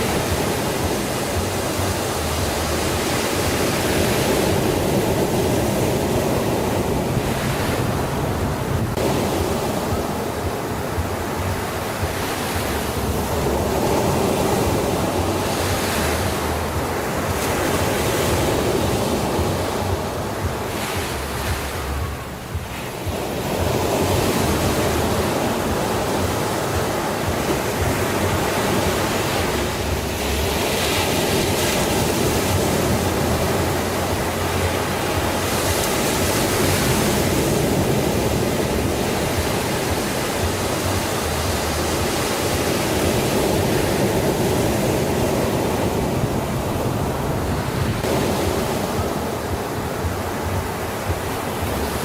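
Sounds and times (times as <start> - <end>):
sea surf washing: 0.0 - 52.0
waves breaking: 0.0 - 52.0.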